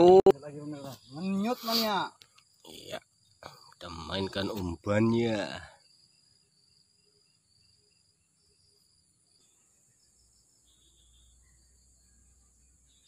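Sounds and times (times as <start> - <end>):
insect high-pitched trill: 0.0 - 13.0
short insect chirps: 0.0 - 13.0.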